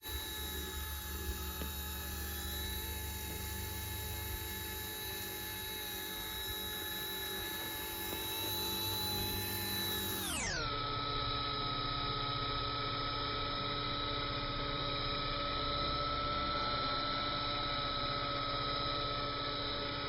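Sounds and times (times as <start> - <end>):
toy helicopter rotors whining: 0.0 - 20.0.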